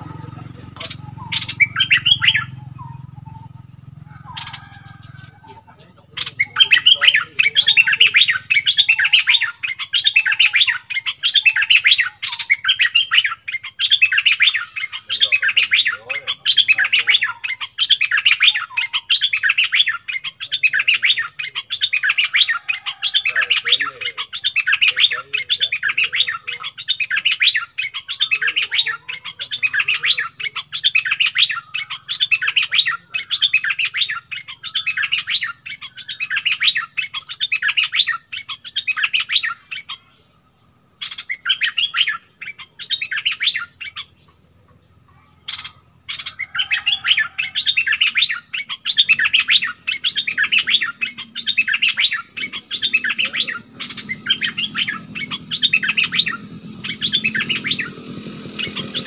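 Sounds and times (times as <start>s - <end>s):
bird singing: 0.0s - 59.0s.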